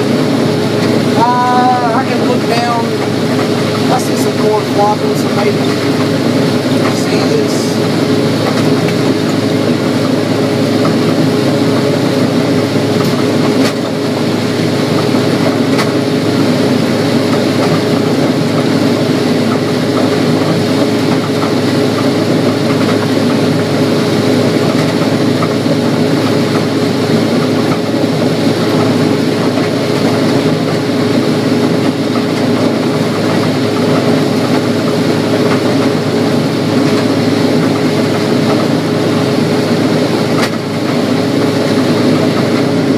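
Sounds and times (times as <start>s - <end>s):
combine harvester drone: 0.0s - 42.9s.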